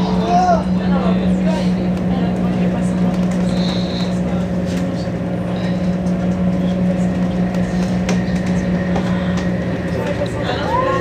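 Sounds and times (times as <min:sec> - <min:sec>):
constant low hum: 0:00.0 - 0:11.0
train carriage running noise: 0:00.0 - 0:11.0.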